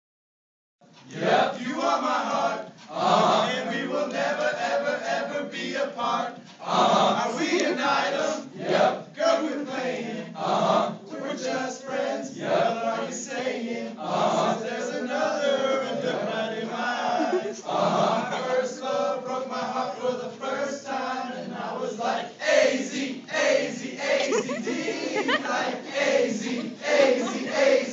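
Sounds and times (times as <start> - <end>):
group of men singing: 1.1 - 27.9.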